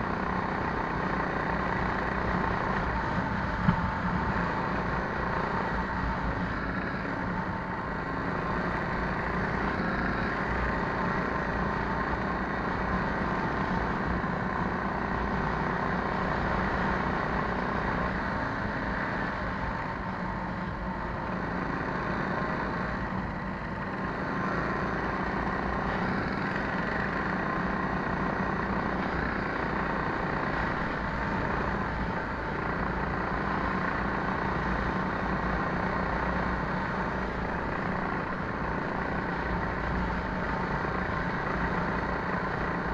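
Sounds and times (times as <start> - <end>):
minibike engine running: 0.0 - 42.9.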